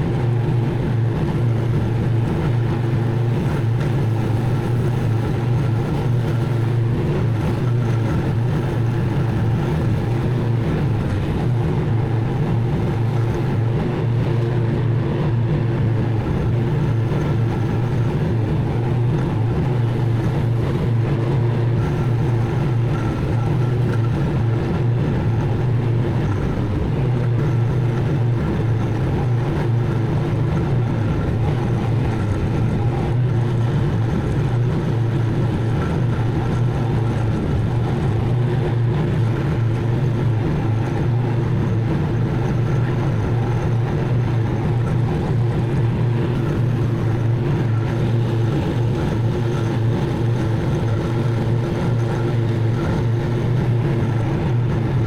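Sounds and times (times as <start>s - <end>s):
mower engine cutting grass: 0.0s - 55.0s.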